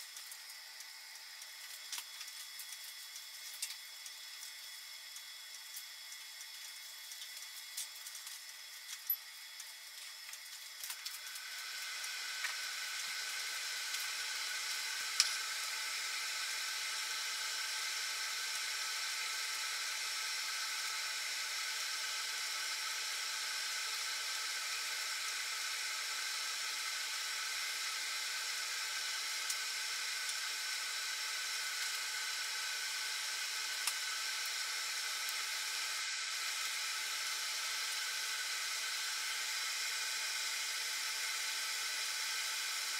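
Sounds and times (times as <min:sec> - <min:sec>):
pot of water boiling with steam hiss: 0:00.0 - 0:42.9.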